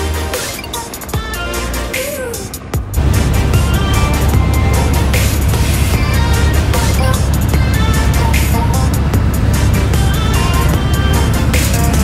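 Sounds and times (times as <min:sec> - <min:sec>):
background music: 0:00.0 - 0:12.0
helicopter in flight: 0:00.3 - 0:12.0.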